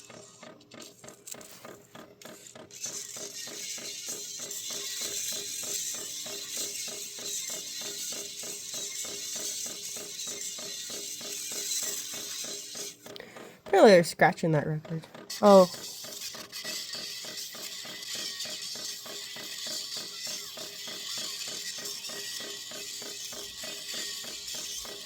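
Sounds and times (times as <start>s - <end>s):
rapid even ticking: 0.0s - 25.0s.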